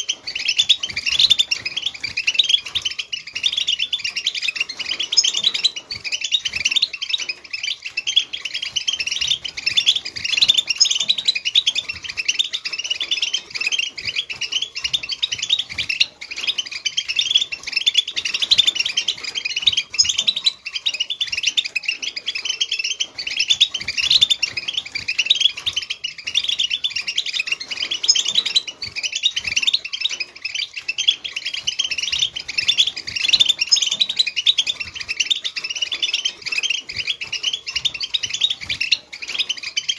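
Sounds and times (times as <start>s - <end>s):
goldfinch twittering: 0.0s - 39.9s.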